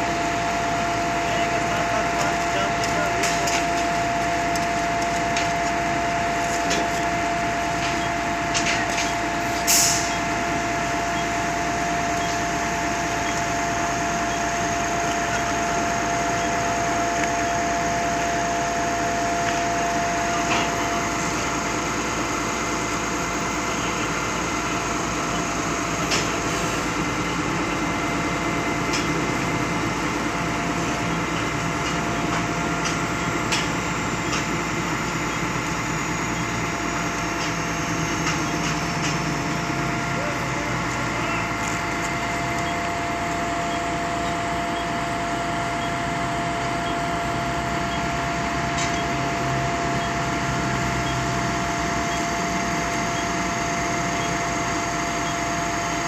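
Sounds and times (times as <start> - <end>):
concrete pump drone: 0.0 - 56.0
machine whine: 0.0 - 56.0.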